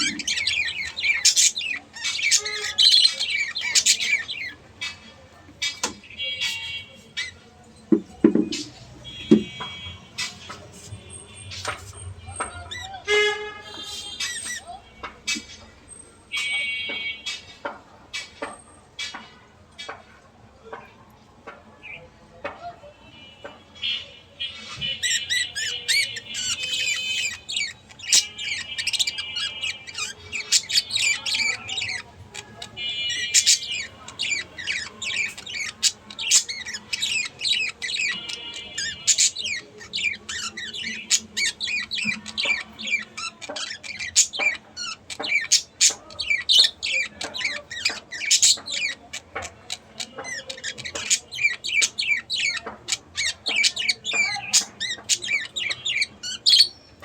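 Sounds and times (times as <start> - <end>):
budgerigars chattering: 0.0 - 7.5, 8.4 - 19.2, 23.8 - 57.0.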